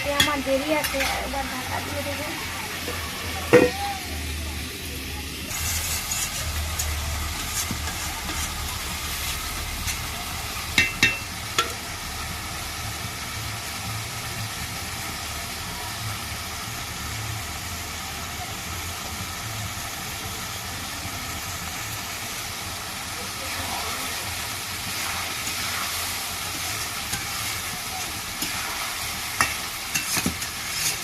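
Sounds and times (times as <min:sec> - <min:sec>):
curry sizzling in a pot: 0:00.0 - 0:31.0.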